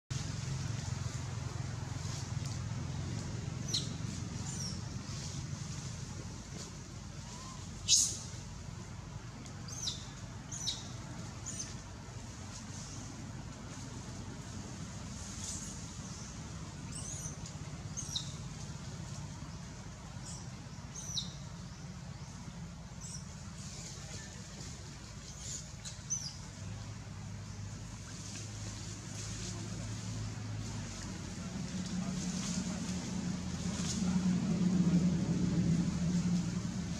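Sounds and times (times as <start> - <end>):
low rumble: 0.1 - 36.9
steady low hum: 0.1 - 36.9.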